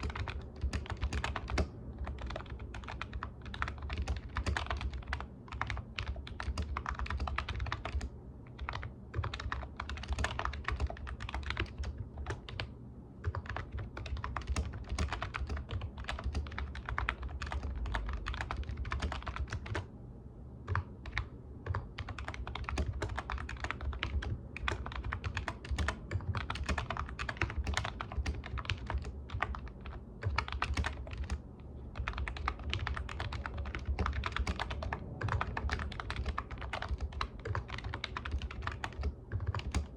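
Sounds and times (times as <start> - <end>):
typing on computer keyboard: 0.0 - 19.9, 20.7 - 39.9
steady low hum: 0.0 - 39.9.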